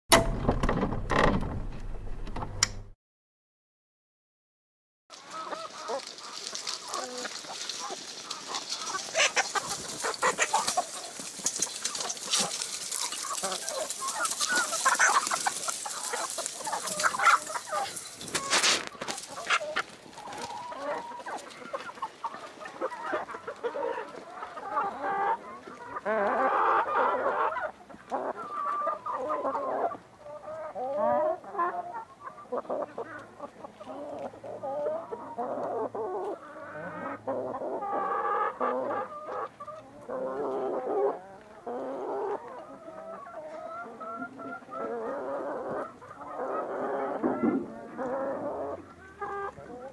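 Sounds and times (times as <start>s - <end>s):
chickens clucking: 5.1s - 49.9s.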